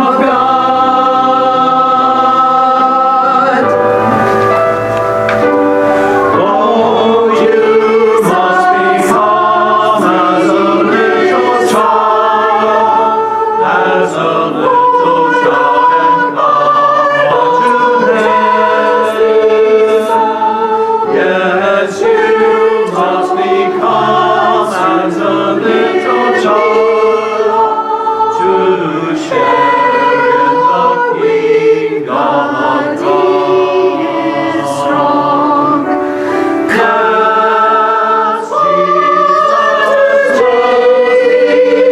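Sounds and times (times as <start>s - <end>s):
choir singing: 0.0s - 41.9s.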